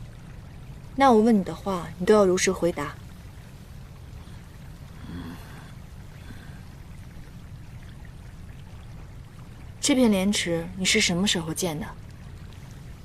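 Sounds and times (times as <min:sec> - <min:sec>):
low steady background rumble: 0:00.0 - 0:13.0.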